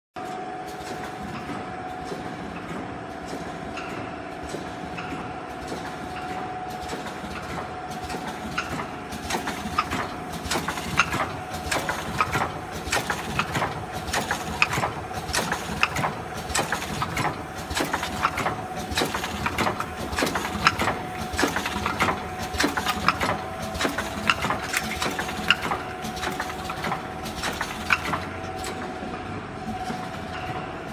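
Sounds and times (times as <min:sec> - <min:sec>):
rapid mechanical clicking: 0:00.7 - 0:30.9.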